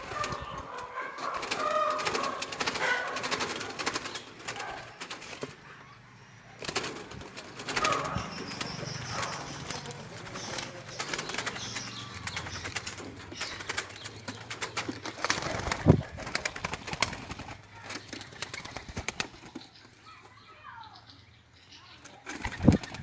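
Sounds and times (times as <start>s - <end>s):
wing flaps: 0.0s - 5.7s, 6.6s - 19.7s, 22.2s - 23.0s
doves cooing: 0.0s - 19.8s.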